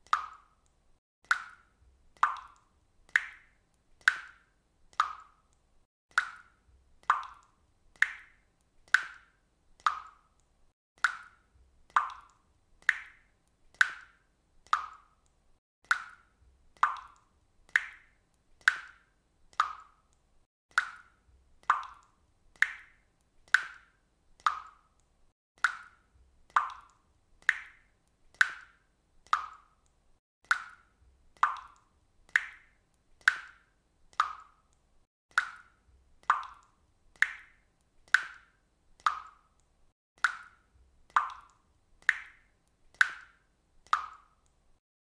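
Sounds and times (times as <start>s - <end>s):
water dripping from faucet: 0.0s - 44.8s.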